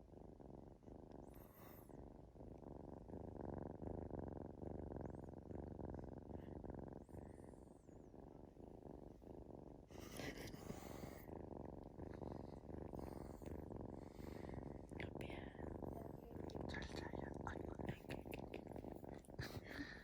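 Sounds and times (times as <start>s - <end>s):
kitten purring softly: 0.0s - 20.0s.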